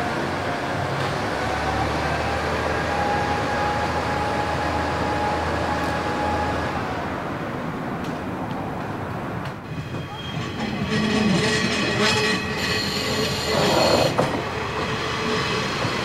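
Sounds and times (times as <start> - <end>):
railcar engine hum: 0.0 - 16.0.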